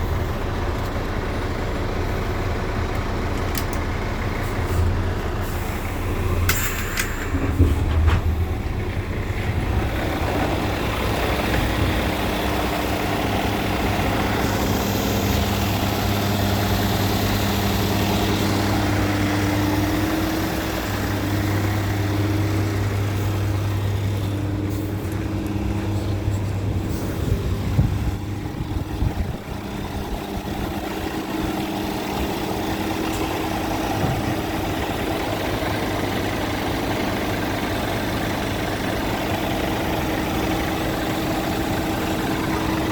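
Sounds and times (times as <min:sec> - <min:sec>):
diesel truck engine running: 0:00.0 - 0:42.9.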